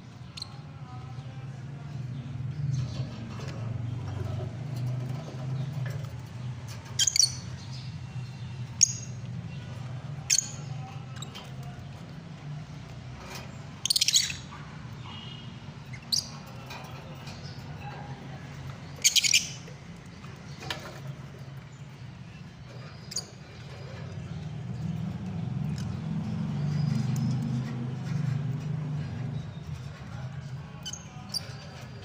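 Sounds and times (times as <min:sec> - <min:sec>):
lovebirds chirping: 0:02.2 - 0:32.0.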